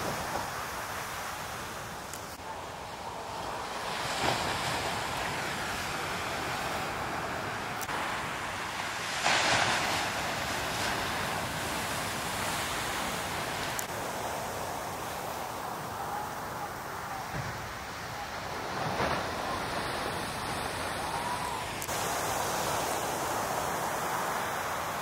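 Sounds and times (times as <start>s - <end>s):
surf waves crashing: 0.0s - 25.0s.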